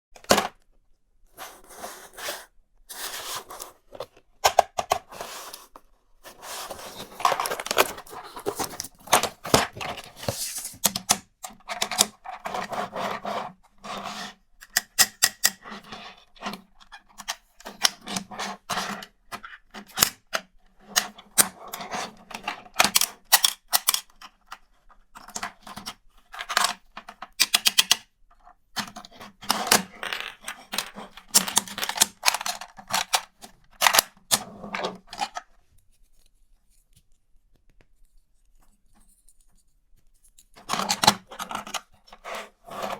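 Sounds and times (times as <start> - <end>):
plastic toys clicking and scraping: 1.4 - 35.6, 38.8 - 42.9.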